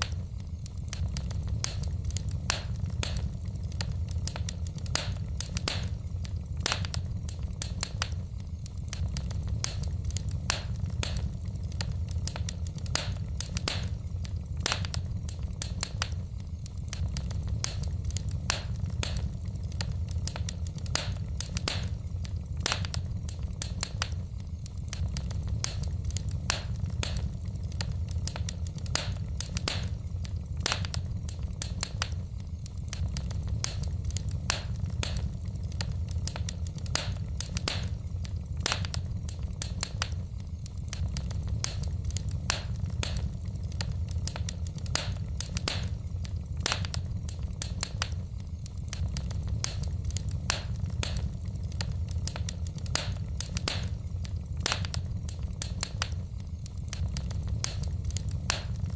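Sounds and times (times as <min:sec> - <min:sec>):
low rumble of flames: 0:00.0 - 0:58.9
wood fire crackling: 0:00.0 - 0:58.9.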